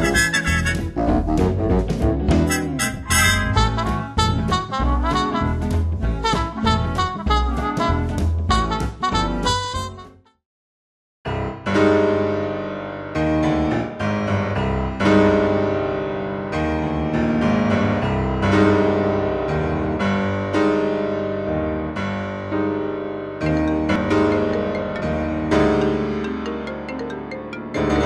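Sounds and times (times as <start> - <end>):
piano playing chords: 0.0 - 10.3, 11.3 - 28.0.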